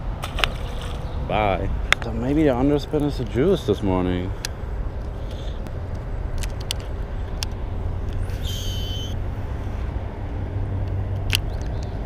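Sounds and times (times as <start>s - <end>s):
highway traffic drone: 0.0s - 12.0s.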